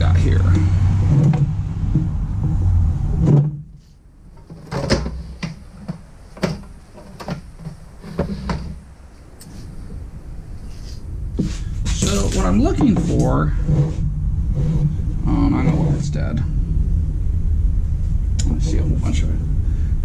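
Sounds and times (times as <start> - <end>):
low rumble: 0.0 - 4.5, 7.7 - 20.0.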